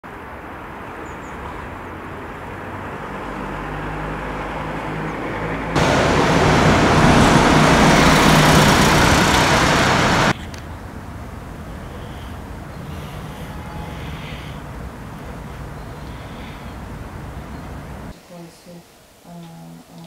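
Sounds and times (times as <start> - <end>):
loud rush of traffic: 0.0 - 18.2
vehicle engine hum: 1.5 - 18.1.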